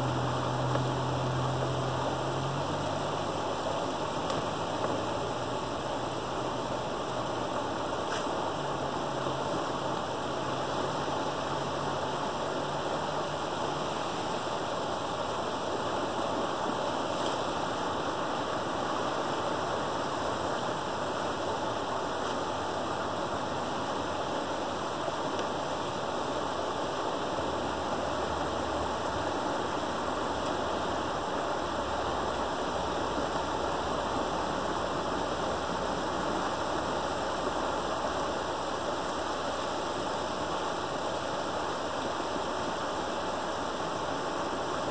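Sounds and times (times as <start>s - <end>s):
creek water rushing and splashing: 0.0s - 44.9s.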